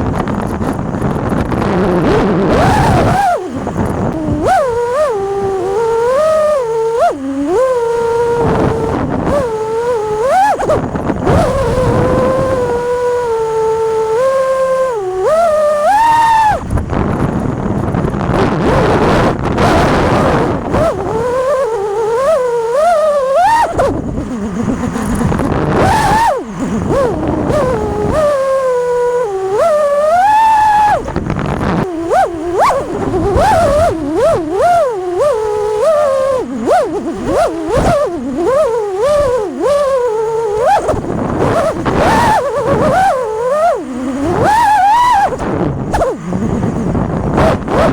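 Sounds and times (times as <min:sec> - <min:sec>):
drone motors whining: 0:00.0 - 0:47.9
wind rush: 0:00.0 - 0:47.9.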